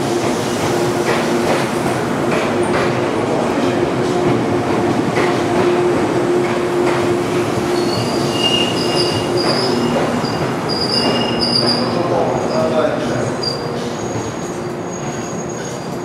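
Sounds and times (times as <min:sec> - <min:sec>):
electric train rumbling and humming: 0:00.0 - 0:16.0.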